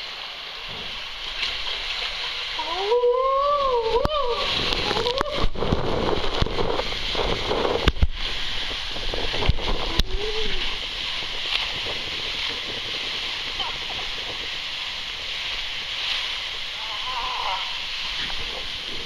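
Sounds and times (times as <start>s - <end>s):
rider sliding through slide tube: 0.0s - 19.0s
water rushing: 0.0s - 19.0s.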